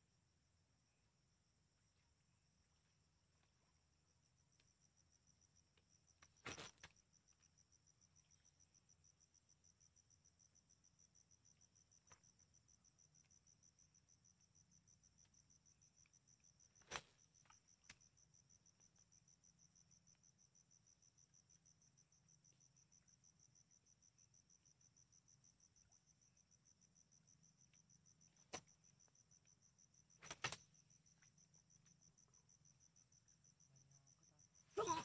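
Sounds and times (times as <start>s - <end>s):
insect chirring: 3.0s - 35.0s.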